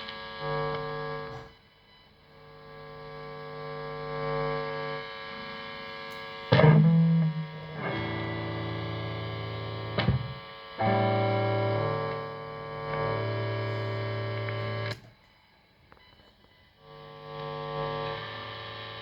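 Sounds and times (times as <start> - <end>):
distorted electric guitar chords: 0.0 - 1.6, 2.4 - 15.1, 16.8 - 19.0.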